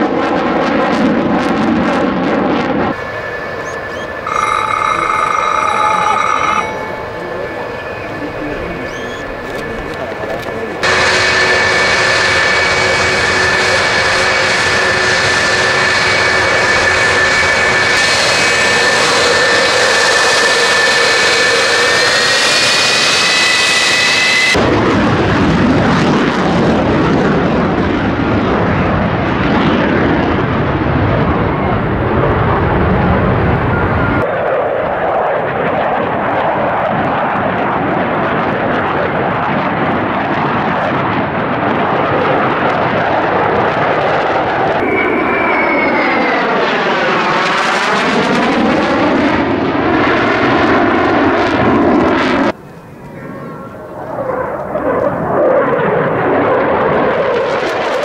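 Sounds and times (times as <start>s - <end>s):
jet engines roaring past: 0.0s - 58.0s
jet turbine whine: 0.1s - 58.0s.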